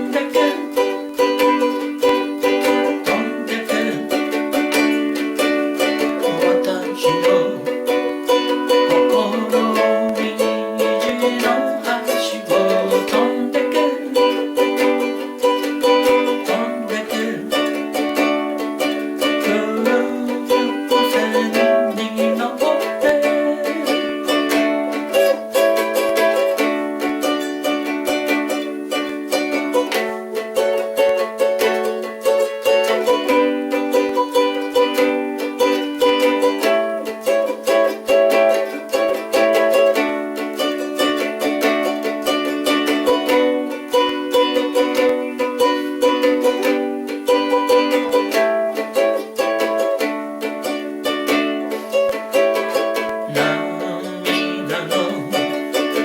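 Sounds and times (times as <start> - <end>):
ukulele strumming chords: 0.0 - 56.0.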